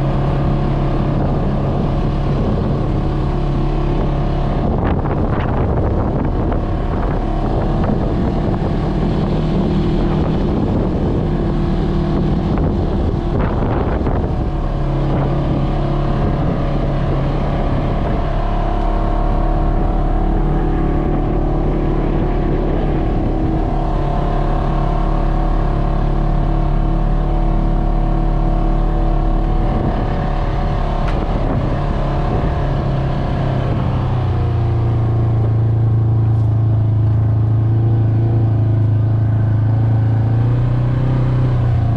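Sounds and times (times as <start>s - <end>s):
engine running: 0.0s - 41.9s
wind on microphone: 0.0s - 41.9s.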